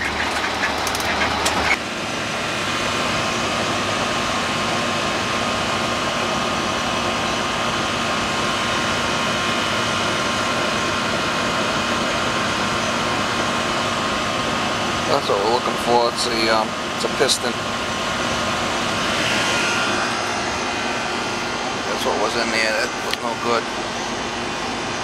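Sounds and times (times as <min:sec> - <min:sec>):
air conditioner fan whirring: 0:00.0 - 0:25.0
road noise: 0:00.0 - 0:25.0
truck engine: 0:00.0 - 0:25.0.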